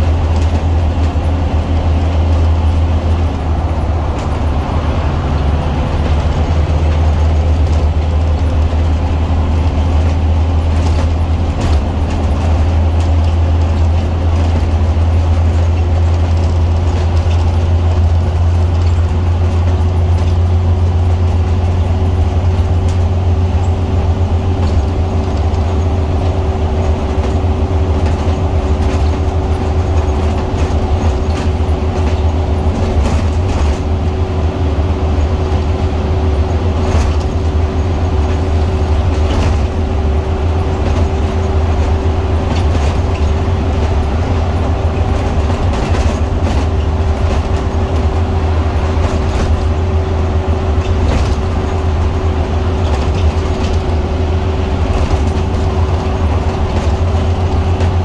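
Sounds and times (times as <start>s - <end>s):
bus diesel engine drone: 0.0s - 58.0s
tyre and road noise: 0.0s - 58.0s
light rattles of bus fittings: 5.8s - 58.0s.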